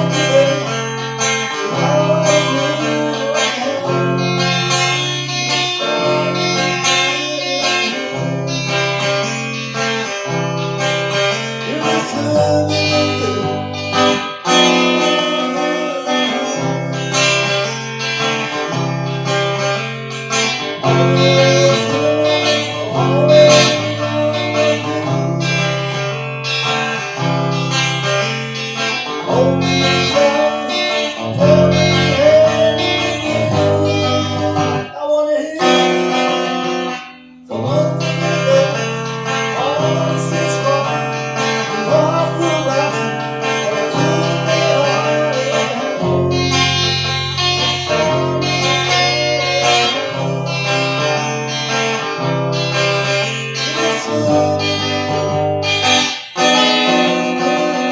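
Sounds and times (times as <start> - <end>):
plucked guitar music: 0.0 - 57.9.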